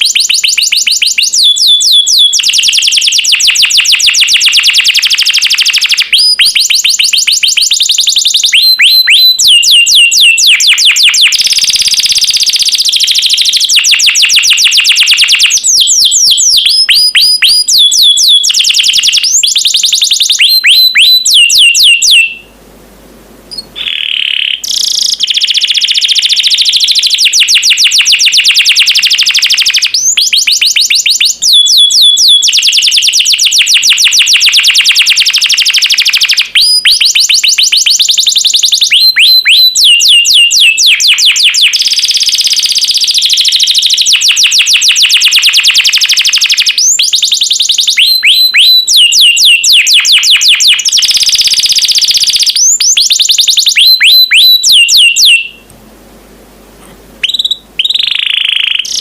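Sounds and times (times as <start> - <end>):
canary singing: 0.0 - 22.6, 23.5 - 55.7, 57.2 - 59.0.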